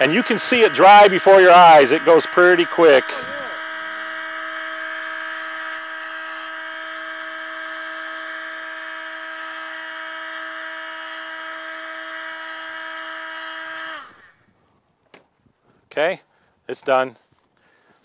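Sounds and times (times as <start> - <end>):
heat gun whining: 0.0 - 14.5.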